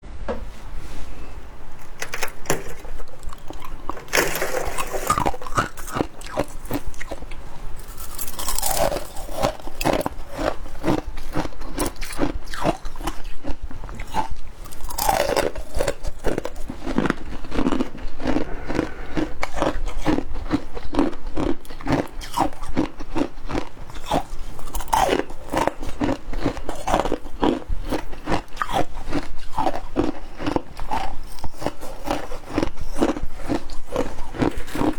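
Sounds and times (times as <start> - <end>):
crunching and chewing ice: 1.8 - 34.9.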